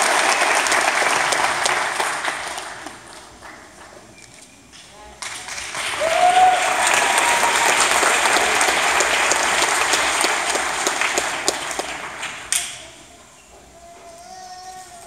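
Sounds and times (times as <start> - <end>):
audience applauding: 0.0 - 4.1, 5.2 - 13.2.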